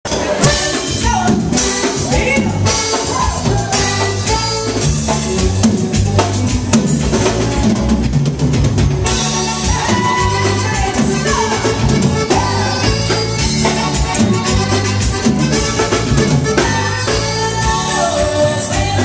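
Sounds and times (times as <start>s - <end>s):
drum kit beat: 0.0s - 19.0s.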